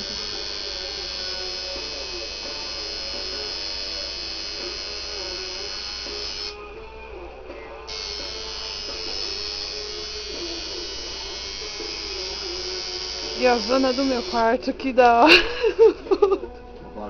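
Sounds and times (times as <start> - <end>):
tattoo machine buzzing: 0.0 - 6.8, 7.6 - 14.9
background music: 0.0 - 17.0.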